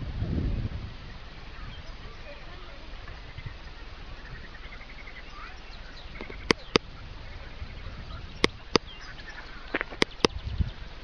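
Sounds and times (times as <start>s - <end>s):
faint bird chirps: 1.0s - 10.9s.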